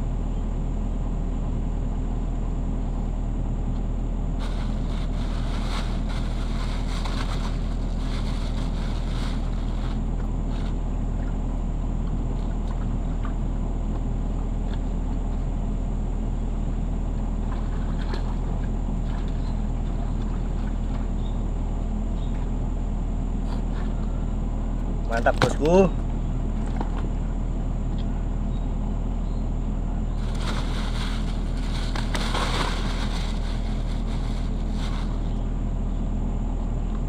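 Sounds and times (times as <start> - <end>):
diesel engine droning: 0.0 - 37.0.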